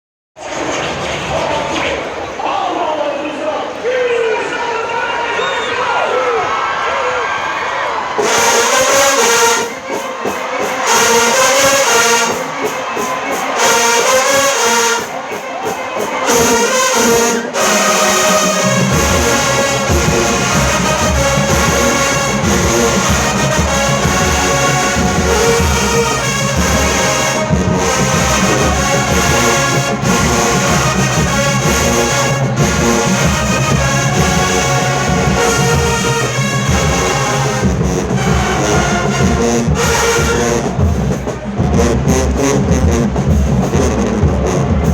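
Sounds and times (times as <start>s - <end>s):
marching band playing: 8.0s - 44.9s.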